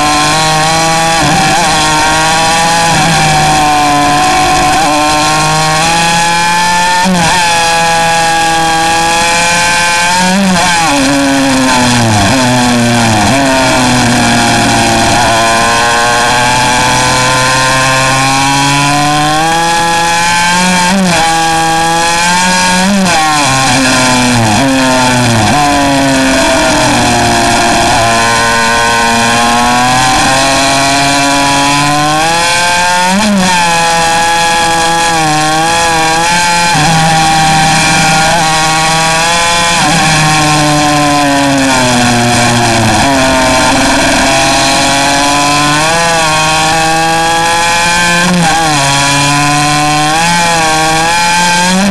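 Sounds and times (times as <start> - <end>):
pocket bike engine revving: 0.0 - 51.9.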